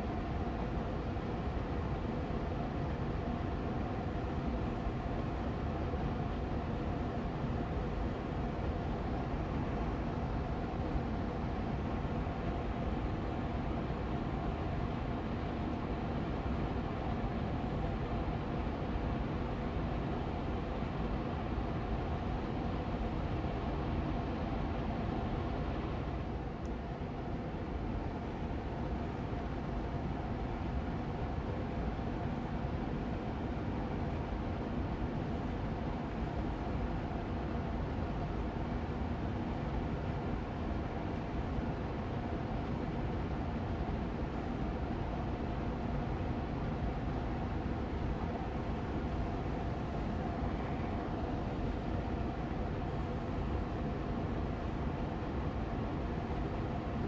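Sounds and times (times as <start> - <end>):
air purifier fan whooshing hum: 0.0 - 57.0.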